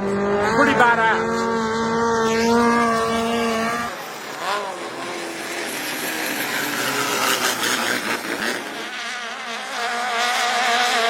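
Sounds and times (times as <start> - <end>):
engine running at high revs: 0.0 - 11.0.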